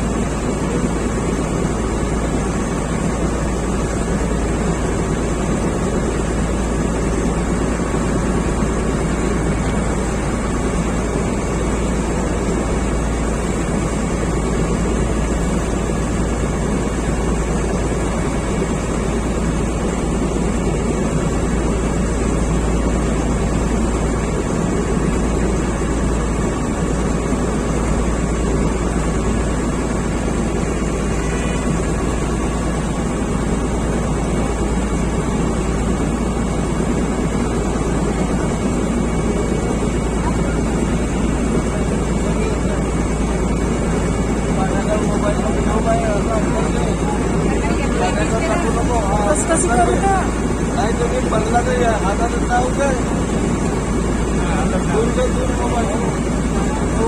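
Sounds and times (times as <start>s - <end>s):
boat engine droning: 0.0s - 57.0s
water noise: 0.0s - 57.0s
wind: 0.0s - 57.0s.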